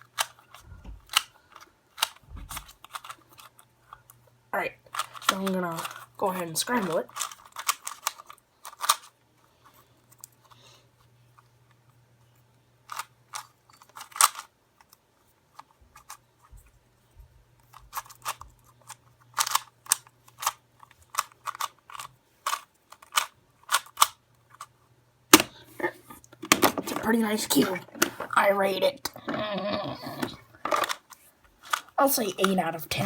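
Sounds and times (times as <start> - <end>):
puzzle cube plastic clicks: 0.0 - 4.2, 4.8 - 10.6, 12.8 - 16.2, 17.6 - 24.7, 25.3 - 33.0.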